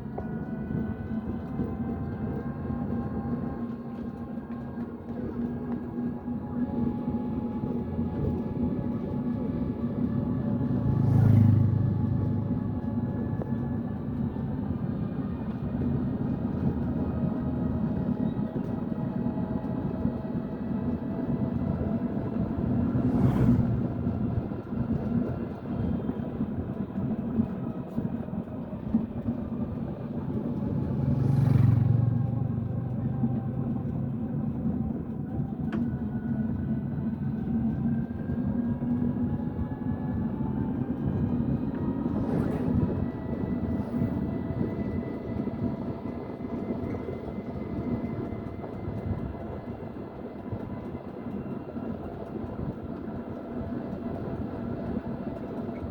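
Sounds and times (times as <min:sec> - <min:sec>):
engine rumble: 0:00.0 - 0:55.9.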